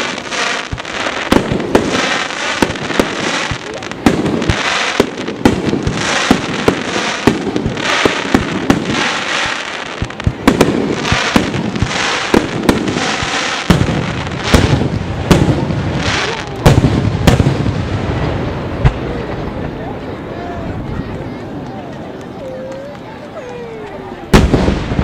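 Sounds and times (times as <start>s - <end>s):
hiss and crackle of fireworks: 0.0s - 25.0s.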